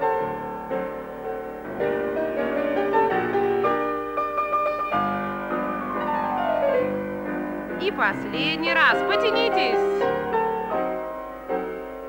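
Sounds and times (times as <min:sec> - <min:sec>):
piano playing: 0:00.0 - 0:12.0.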